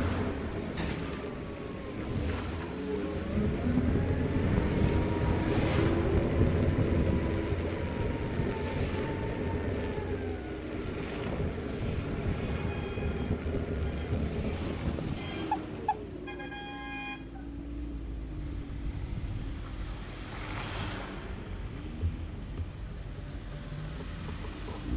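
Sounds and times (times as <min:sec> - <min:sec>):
wind rumble on microphone: 0:00.0 - 0:24.9.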